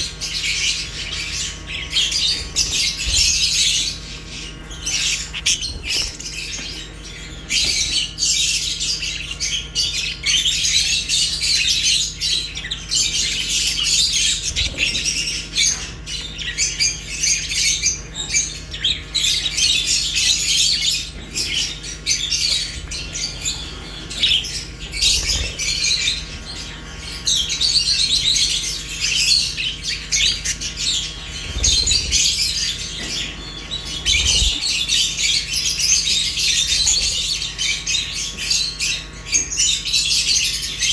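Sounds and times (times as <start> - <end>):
budgies and lovebirds chirping: 0.0 - 40.9.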